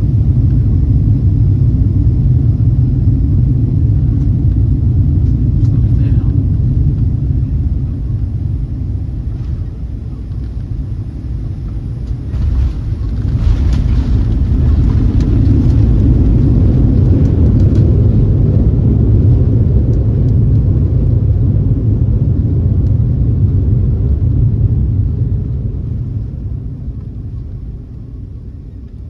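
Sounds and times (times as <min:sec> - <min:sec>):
airliner engine noise: 0:00.0 - 0:29.0
wheels rumbling on runway: 0:00.0 - 0:29.0.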